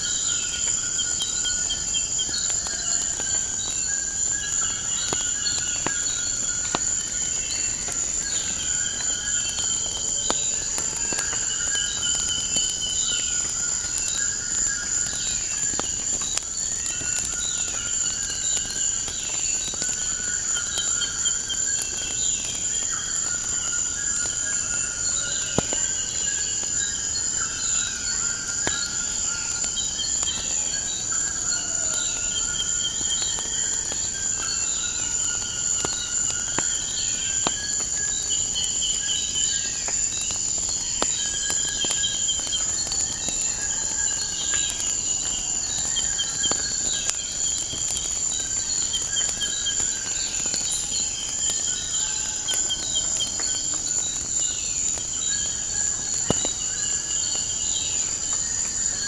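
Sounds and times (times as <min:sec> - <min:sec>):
crickets chirping: 0:00.0 - 0:59.0
wood fire crackling: 0:00.0 - 0:59.0.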